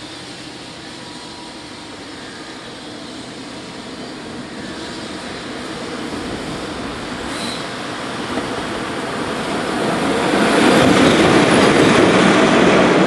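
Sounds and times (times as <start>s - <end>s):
train rushing rumble: 0.0s - 13.0s.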